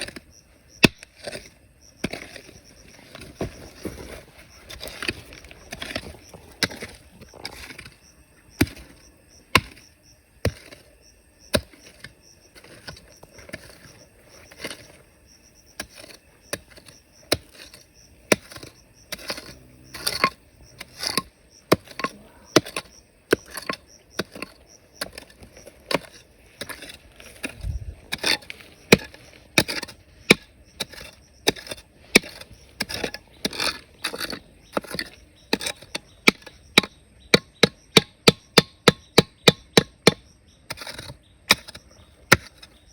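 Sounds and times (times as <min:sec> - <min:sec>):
hand tool striking rock: 0:00.0 - 0:15.0, 0:15.7 - 0:42.9.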